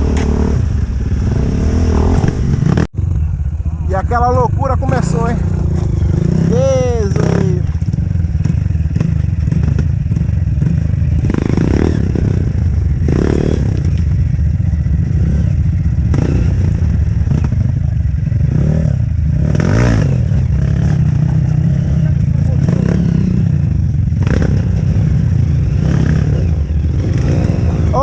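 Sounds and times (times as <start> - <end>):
dirt bike engine revving: 0.0 - 3.2, 4.4 - 28.0.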